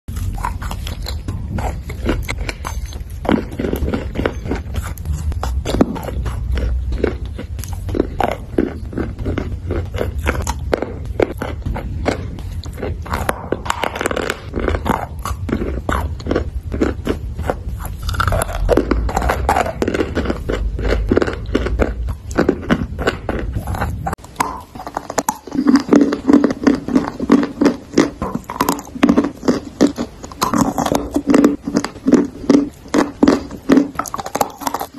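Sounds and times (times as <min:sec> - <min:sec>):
chewing crunchy clay: 0:00.1 - 0:34.9
low hum: 0:00.1 - 0:34.9.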